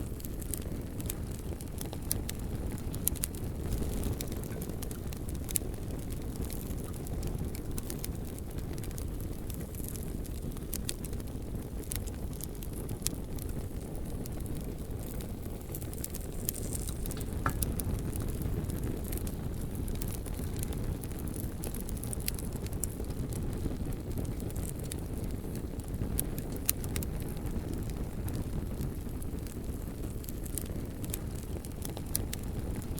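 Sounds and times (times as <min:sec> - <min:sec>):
burning wood crackling and popping: 0:00.0 - 0:32.9
low rumble of flames: 0:00.0 - 0:32.9.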